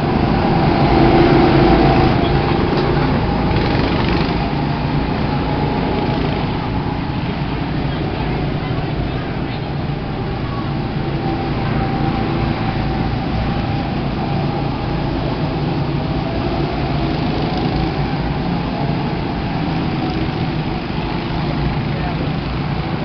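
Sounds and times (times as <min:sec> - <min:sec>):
go-kart engines droning: 0:00.0 - 0:23.0.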